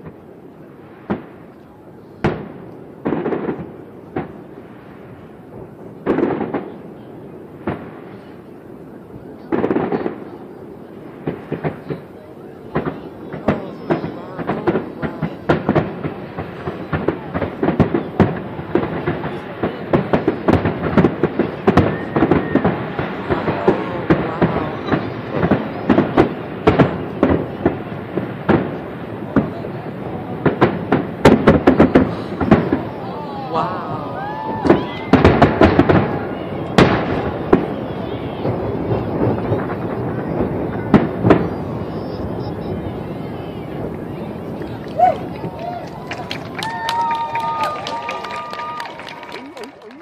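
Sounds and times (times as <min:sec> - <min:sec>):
continuous rumble: 0:00.0 - 0:46.8
fireworks bursting: 0:00.0 - 0:50.0.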